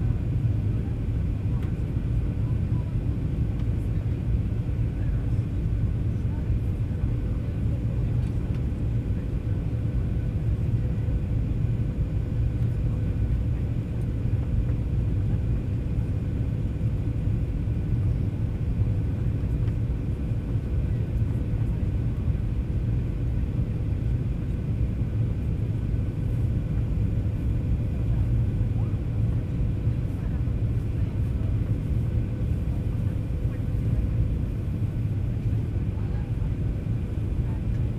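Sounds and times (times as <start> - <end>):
jet engine cabin rumble: 0.0 - 37.9.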